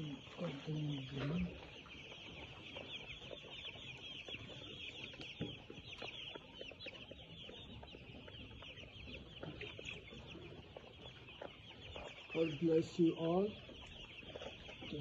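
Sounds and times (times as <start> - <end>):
chicks cheeping: 0.0 - 15.0.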